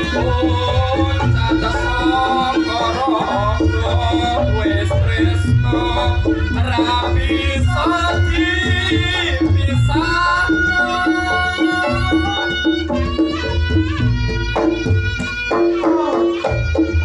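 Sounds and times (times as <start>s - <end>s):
hand drumming: 0.0s - 17.0s
heavy bass: 0.0s - 17.0s
wavering melody line: 0.0s - 17.0s.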